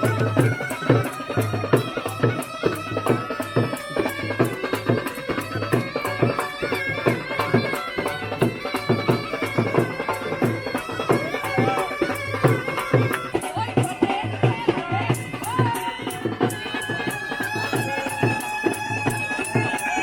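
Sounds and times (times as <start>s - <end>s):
hand drums beating: 0.0s - 20.0s.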